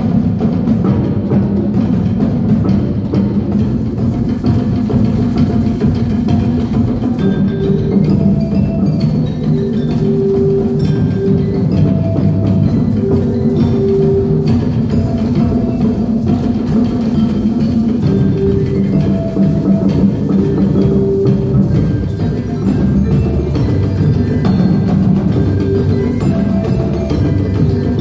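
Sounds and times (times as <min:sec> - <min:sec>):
drums and timpani: 0:00.0 - 0:28.0
mallet keyboard strokes: 0:00.0 - 0:28.0.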